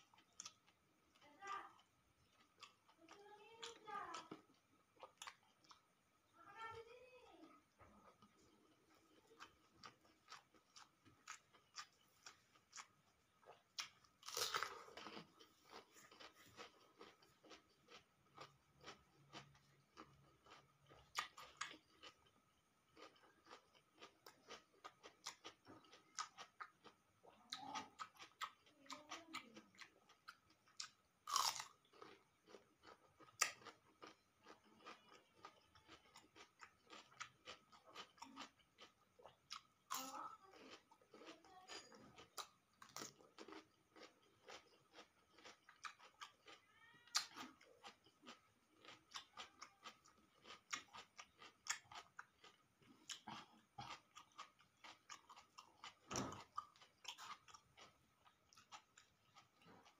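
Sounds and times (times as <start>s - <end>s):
chewing and crunching food: 0.0s - 59.9s.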